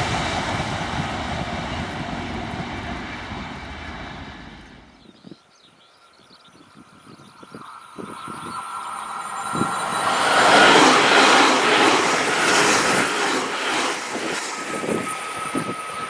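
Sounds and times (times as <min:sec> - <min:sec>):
electric train rushing past: 0:00.0 - 0:05.1, 0:06.6 - 0:16.0.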